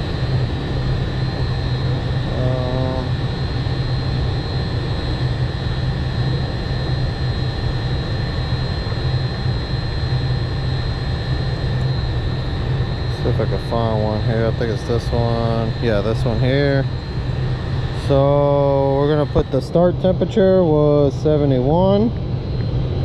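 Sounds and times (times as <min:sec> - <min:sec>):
hvac equipment humming: 0:00.0 - 0:23.0.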